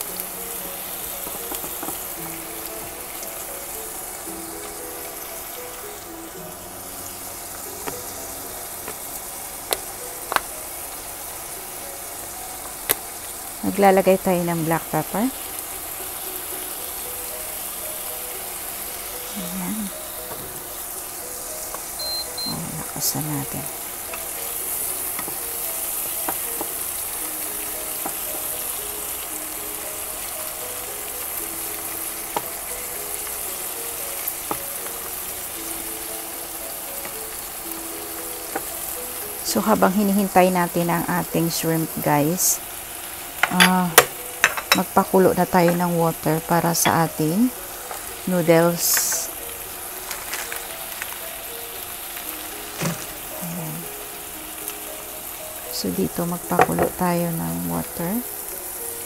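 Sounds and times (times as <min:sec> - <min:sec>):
food sizzling in frying pan: 0:00.0 - 0:59.0.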